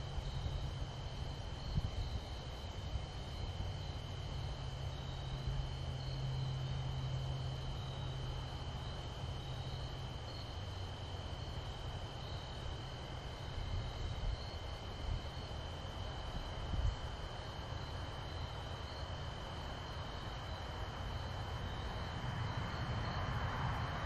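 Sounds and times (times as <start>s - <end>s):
crickets chirring: 0.0s - 24.0s
distant engine hum: 0.0s - 24.0s.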